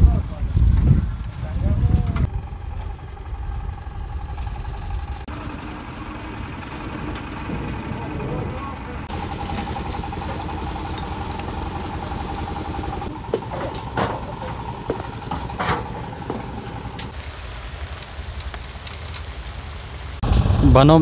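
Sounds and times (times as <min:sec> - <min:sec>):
engine rumble: 0:00.0 - 0:21.0
engine whine: 0:00.0 - 0:21.0.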